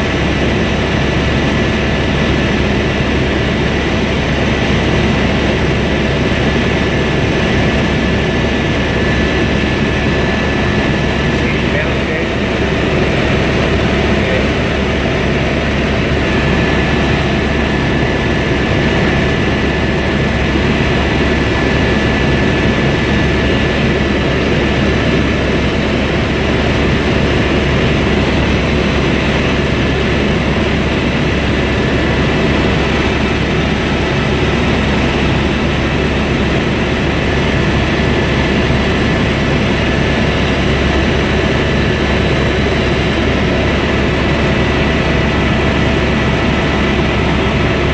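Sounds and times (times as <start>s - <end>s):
helicopter drone from cabin: 0.0s - 47.9s.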